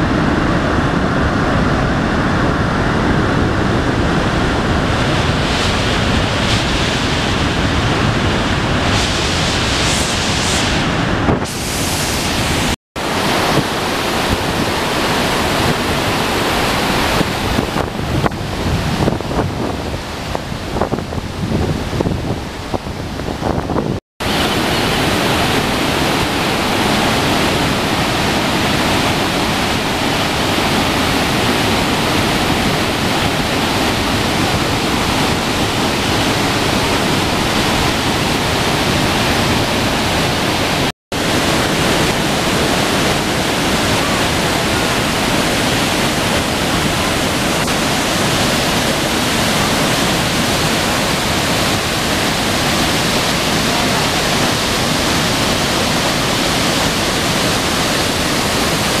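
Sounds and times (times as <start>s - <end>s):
large waterfall rushing: 0.0s - 59.0s.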